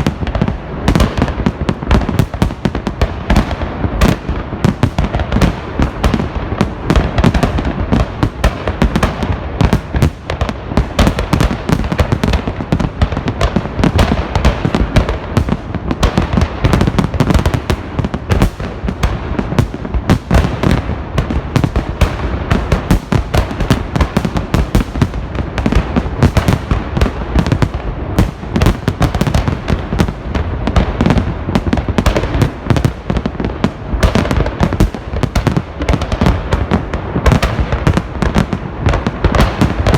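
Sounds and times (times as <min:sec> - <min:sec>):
firework bursts: 0:00.0 - 0:39.9.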